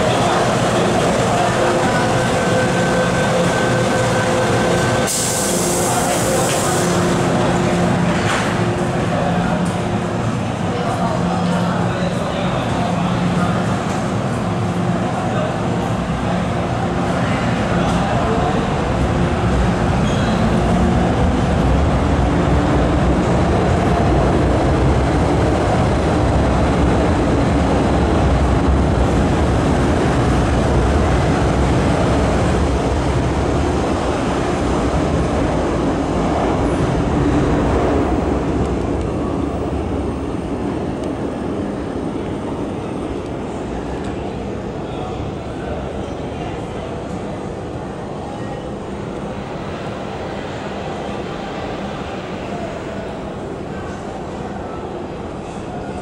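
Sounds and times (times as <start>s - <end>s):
train wheels and motors rumbling: 0.0s - 56.0s.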